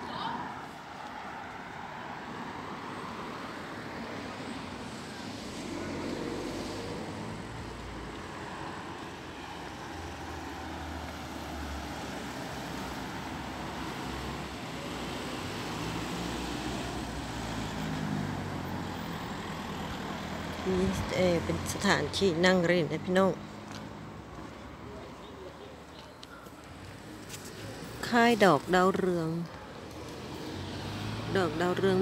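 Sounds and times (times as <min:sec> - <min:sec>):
cars driving along street: 0:00.0 - 0:32.0.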